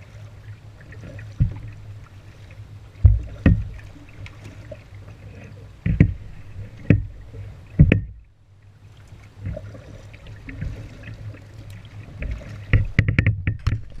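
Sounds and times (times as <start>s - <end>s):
paddle knocks and splashes: 0.0s - 8.3s, 8.9s - 14.0s
low steady rumble: 0.0s - 14.0s.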